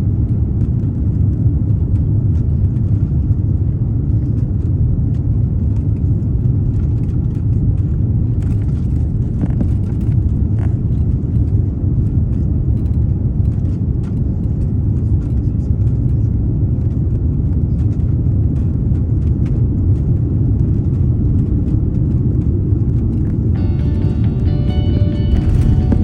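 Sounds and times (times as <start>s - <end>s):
vehicle interior rumble: 0.0s - 26.0s.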